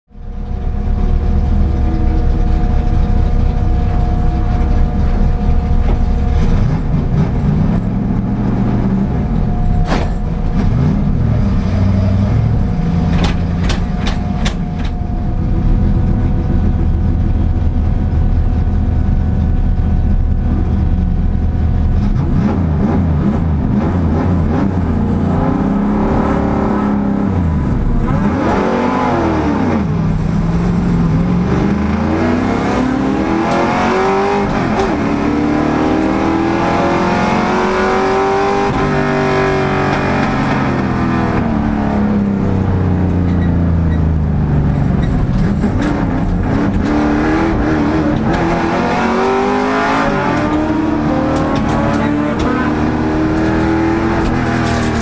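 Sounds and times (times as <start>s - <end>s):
race car engine revving: 0.2s - 55.0s.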